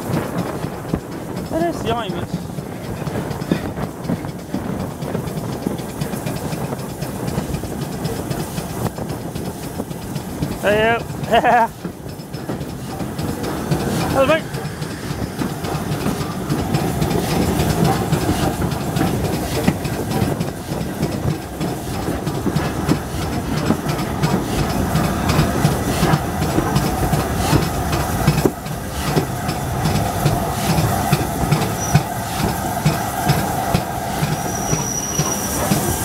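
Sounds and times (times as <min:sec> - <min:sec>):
passing train: 0:00.0 - 0:36.0
train wheels clattering over rail joints: 0:00.0 - 0:36.0.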